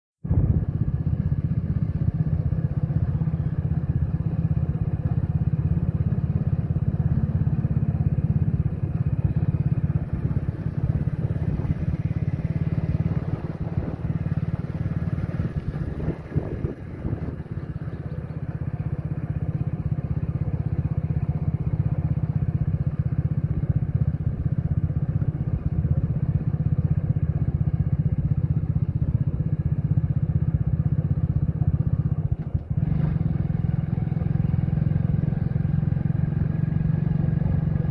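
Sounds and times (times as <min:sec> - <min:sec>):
moving vehicle rumble: 0:00.2 - 0:37.9.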